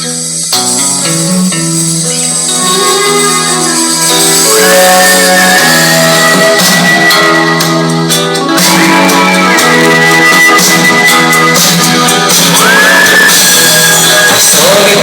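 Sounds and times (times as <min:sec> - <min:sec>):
instrumental guitar music: 0:00.0 - 0:15.0.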